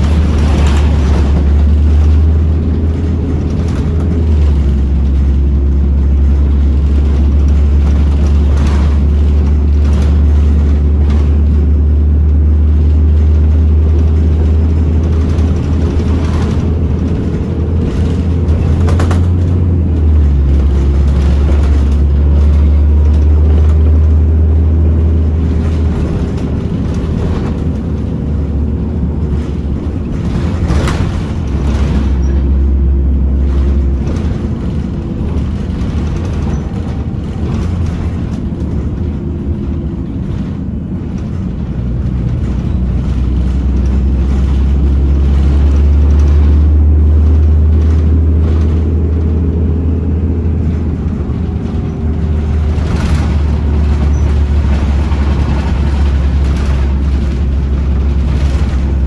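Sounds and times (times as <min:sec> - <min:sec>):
rattles: 0:00.0 - 0:49.3, 0:50.5 - 0:59.0
bus engine rumbling: 0:00.0 - 0:59.0.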